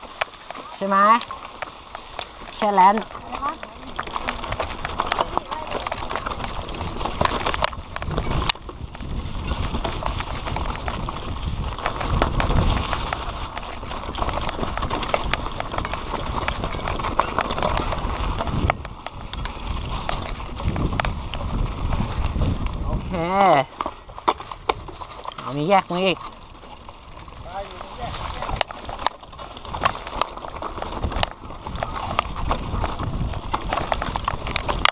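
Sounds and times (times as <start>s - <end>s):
bike chain and frame rattling: 0.0s - 34.9s
bike tyres rolling over dirt: 0.0s - 34.9s
wind rumble on microphone: 2.5s - 25.4s, 26.5s - 34.9s.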